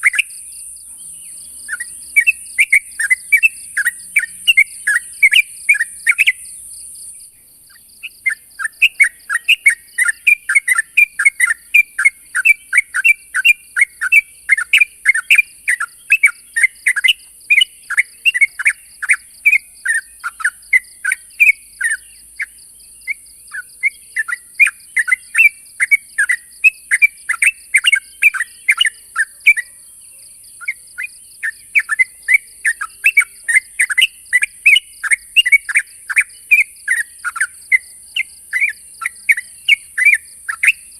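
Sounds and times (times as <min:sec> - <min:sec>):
bulbul chattering call: 0:00.0 - 0:40.9.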